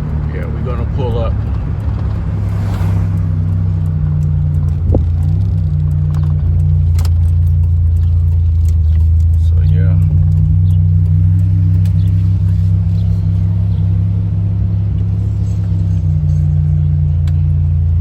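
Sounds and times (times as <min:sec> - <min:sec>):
car engine droning: 0:00.0 - 0:18.0.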